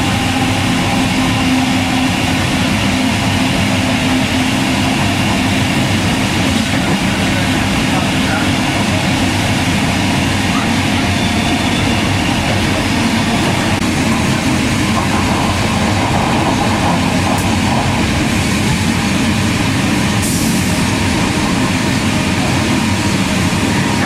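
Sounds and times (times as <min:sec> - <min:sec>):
steam train running at speed: 0:00.0 - 0:24.0.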